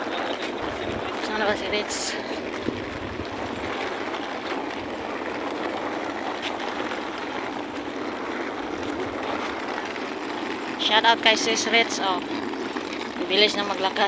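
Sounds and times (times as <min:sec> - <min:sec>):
suitcases rolling over concrete: 0:00.0 - 0:14.0.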